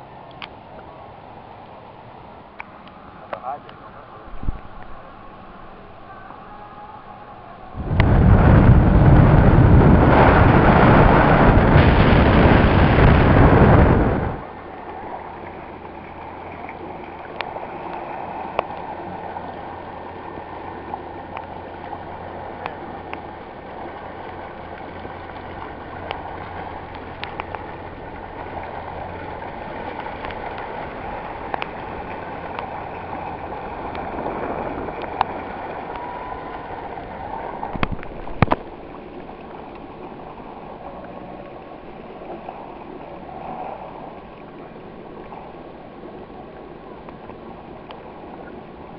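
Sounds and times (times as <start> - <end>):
water lapping and gurgling: 0.0 - 48.9
boat engine idling: 2.1 - 48.9.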